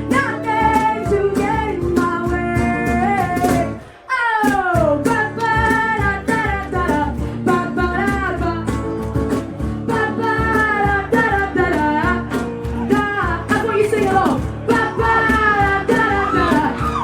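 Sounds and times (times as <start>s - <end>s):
person singing: 0.0s - 8.8s, 9.9s - 17.0s
strummed acoustic guitar: 0.0s - 17.0s.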